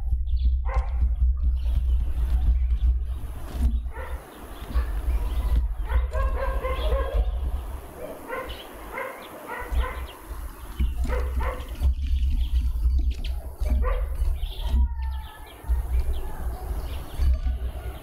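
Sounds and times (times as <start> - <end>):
steady low rumble: 0.0 - 9.0, 9.6 - 18.0
bird calls and chirps: 0.0 - 18.0
distant dog barking: 0.6 - 1.1, 3.8 - 18.0.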